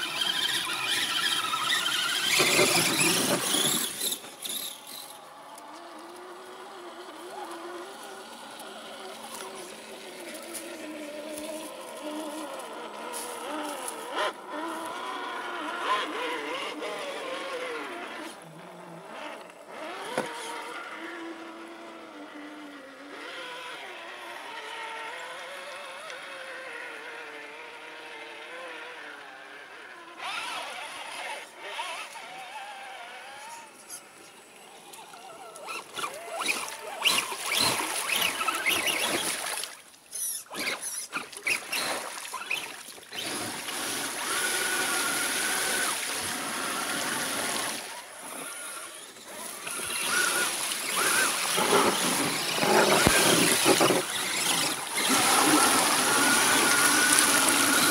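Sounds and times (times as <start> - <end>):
rc truck motor whine: 0.0 - 57.9
truck splashing through water: 0.0 - 57.9.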